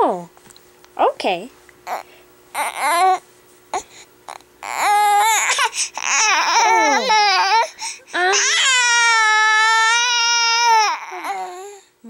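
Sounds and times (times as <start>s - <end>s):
baby crying: 1.9s - 11.8s.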